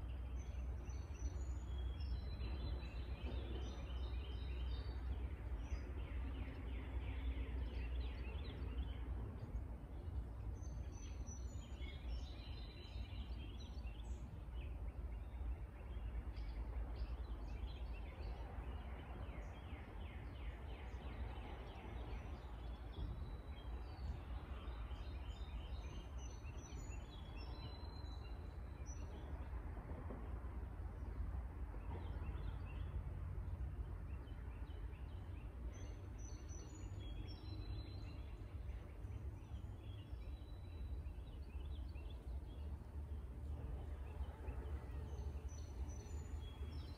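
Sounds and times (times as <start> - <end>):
songbirds chirping and trilling: 0.0 - 30.0, 30.6 - 46.9.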